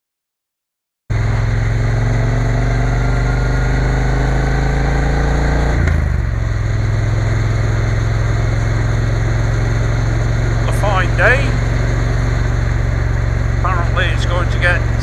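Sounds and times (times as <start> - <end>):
motorcycle engine revving: 1.1 - 15.0.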